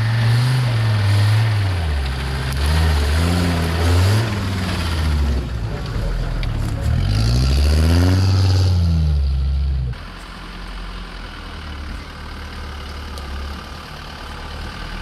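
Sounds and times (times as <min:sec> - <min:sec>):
low engine running: 0:00.0 - 0:07.6, 0:08.7 - 0:15.0
off-road engine revving: 0:00.0 - 0:15.0.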